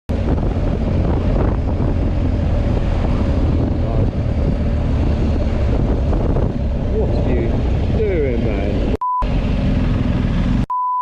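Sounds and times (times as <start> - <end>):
wind buffeting microphone: 0.1 - 9.0
vehicle engine running: 0.1 - 10.7.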